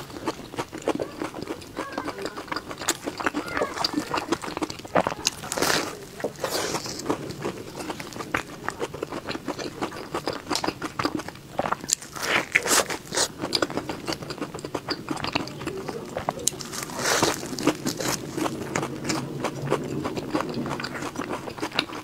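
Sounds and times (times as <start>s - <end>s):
crackly chewing: 0.0s - 22.0s
crunchy biting: 0.0s - 22.0s.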